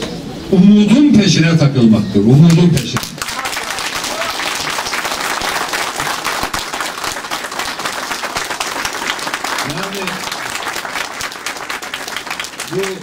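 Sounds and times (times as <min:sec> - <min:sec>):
crowd applauding: 0:02.4 - 0:13.0.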